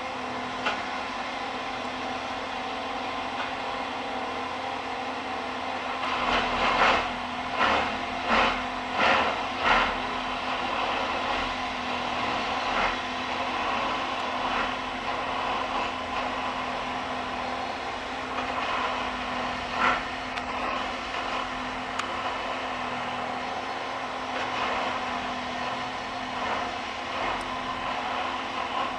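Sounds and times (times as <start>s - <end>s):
rail vehicle running hum: 0.0s - 28.9s.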